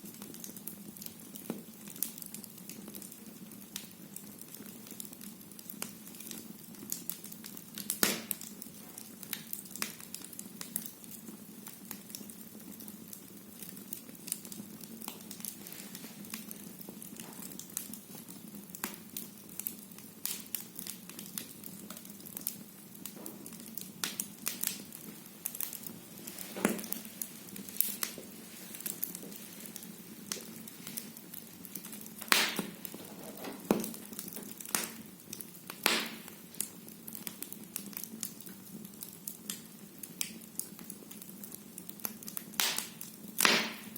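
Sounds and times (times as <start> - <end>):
firewood crackling: 0.0 - 43.9.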